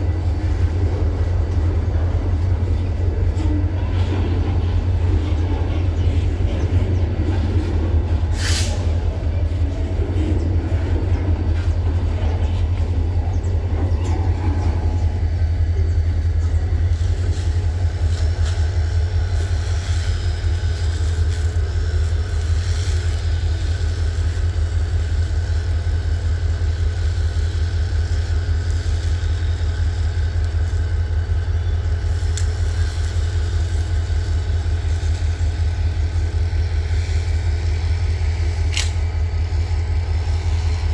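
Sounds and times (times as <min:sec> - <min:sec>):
diesel locomotive idling: 0:00.0 - 0:40.9.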